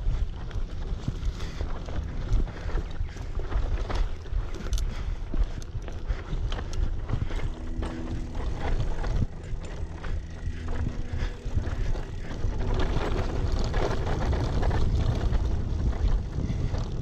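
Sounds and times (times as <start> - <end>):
bicycle tyre noise: 0.0 - 17.0
wind rumble on microphone: 0.0 - 17.0.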